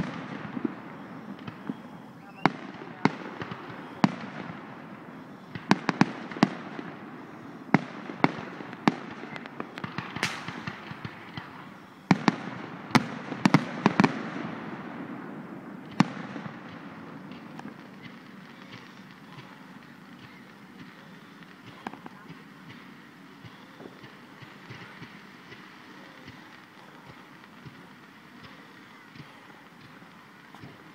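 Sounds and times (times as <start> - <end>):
firework bangs: 0.0 - 30.9
firework crackling: 0.0 - 30.9.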